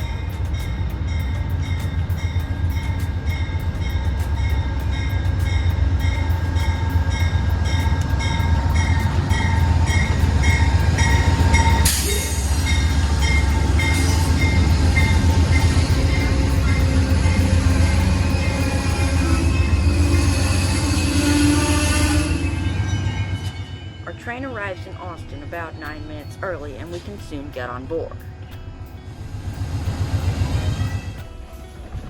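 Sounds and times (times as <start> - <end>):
diesel locomotive rumble: 0.0 - 27.8, 28.4 - 32.0
locomotive bell ringing: 0.0 - 32.0.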